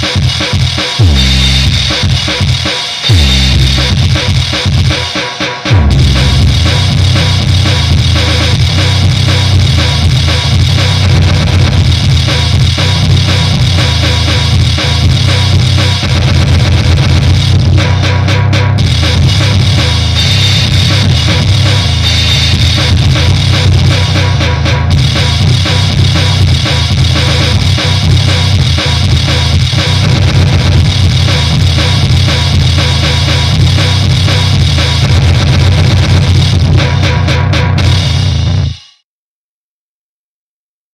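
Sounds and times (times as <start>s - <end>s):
distorted guitar: 0.0s - 39.0s
fast drums: 0.0s - 39.0s.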